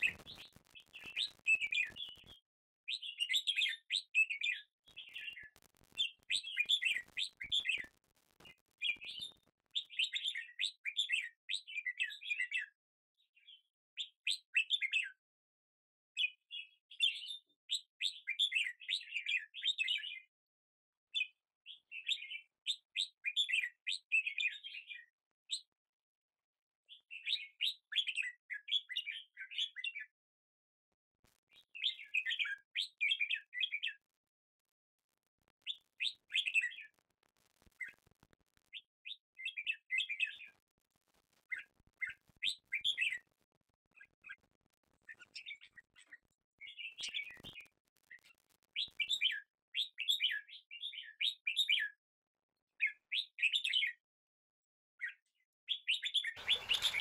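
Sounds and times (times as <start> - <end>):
small birds chirping: 0.0 - 15.2, 16.2 - 20.3, 21.2 - 25.8, 26.8 - 30.1, 31.3 - 34.1, 35.5 - 40.6, 41.3 - 52.0, 52.8 - 54.0, 55.0 - 57.0.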